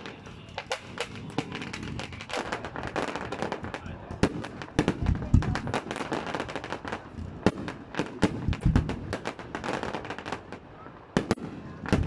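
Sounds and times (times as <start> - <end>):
deep fireworks booms: 0.0 - 12.0
fireworks cracking: 0.0 - 12.0.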